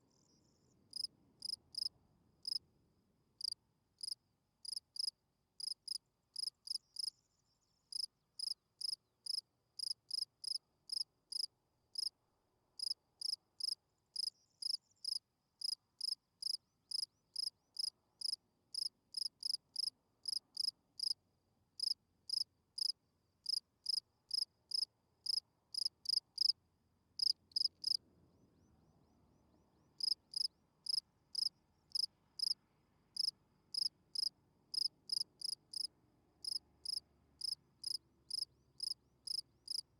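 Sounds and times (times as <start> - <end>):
field cricket chirping: 0.0 - 2.6, 3.4 - 12.2, 12.8 - 21.2, 21.8 - 26.6, 27.2 - 39.9.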